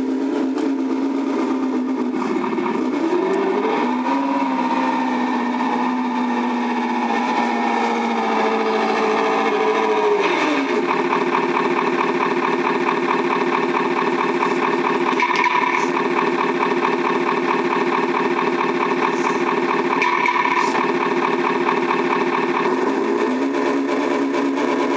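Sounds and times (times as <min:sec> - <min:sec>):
simulated diesel truck engine: 0:00.0 - 0:24.9.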